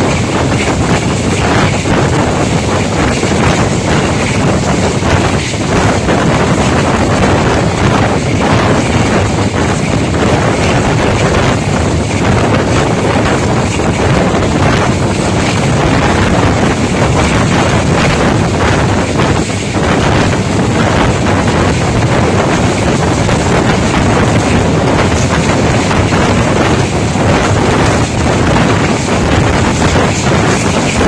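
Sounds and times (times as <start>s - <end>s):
train coaches rumbling on track: 0.0s - 31.0s
wind rushing over microphone: 0.0s - 31.0s.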